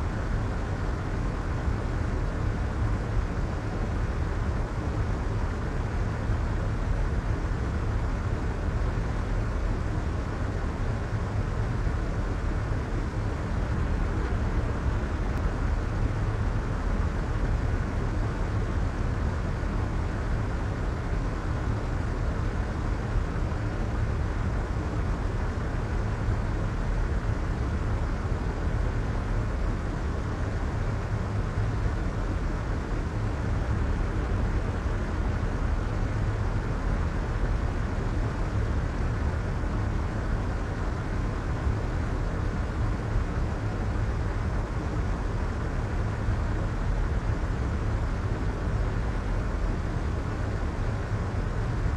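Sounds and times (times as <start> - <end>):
white noise hiss with deep rumble: 0.0 - 51.9.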